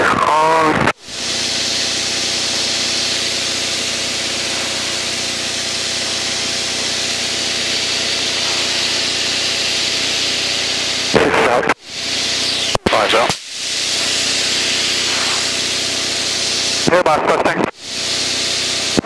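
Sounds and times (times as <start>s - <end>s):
aircraft engine drone: 0.0s - 19.0s
rush of airflow: 1.0s - 11.2s, 11.8s - 16.9s.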